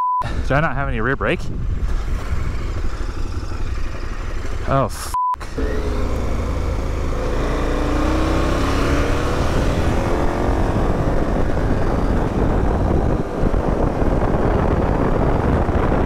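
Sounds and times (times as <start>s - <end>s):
wind noise: 0.2s - 4.1s, 5.5s - 16.0s
motorcycle engine pulling away: 1.7s - 4.8s, 5.4s - 16.0s.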